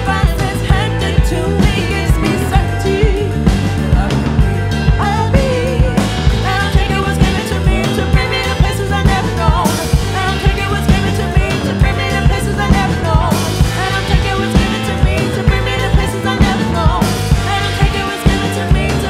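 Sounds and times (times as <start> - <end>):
drums with steady beat: 0.0 - 19.0
guitar: 0.0 - 19.0
women singing: 0.0 - 19.0.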